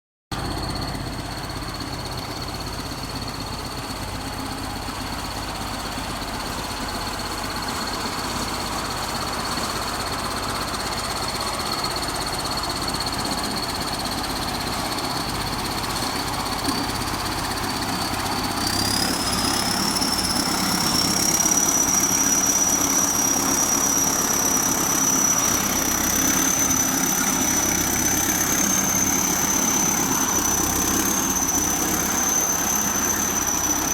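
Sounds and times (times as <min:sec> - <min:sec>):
bulldozer diesel engine running: 0:00.3 - 0:33.9
high engine whine: 0:00.4 - 0:33.9.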